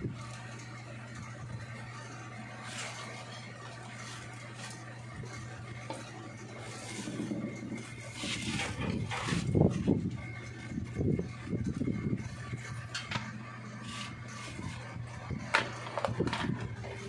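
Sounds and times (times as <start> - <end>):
steady low hum: 0.0 - 17.0
wire rustling and scraping: 0.1 - 17.0.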